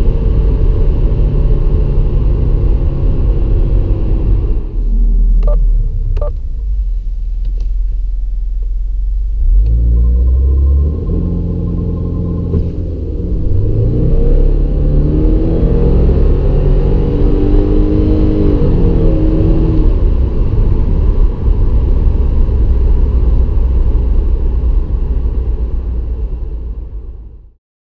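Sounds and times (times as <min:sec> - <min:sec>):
car engine accelerating: 0:00.0 - 0:27.5
low rumble of road noise: 0:00.0 - 0:27.6.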